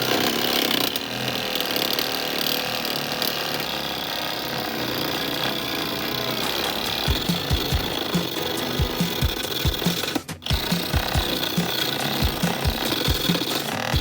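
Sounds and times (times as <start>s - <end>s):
wood lathe running: 0.0s - 14.0s.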